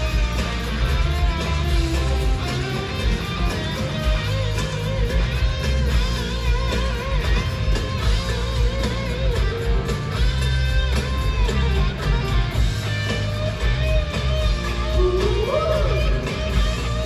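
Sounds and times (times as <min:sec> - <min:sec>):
bass guitar: 0:00.0 - 0:17.0
drums: 0:00.0 - 0:17.0.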